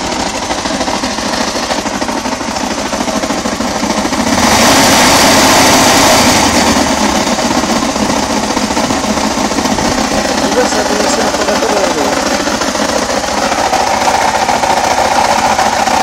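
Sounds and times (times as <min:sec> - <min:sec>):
motorcycle engine rattling: 0:00.0 - 0:16.0.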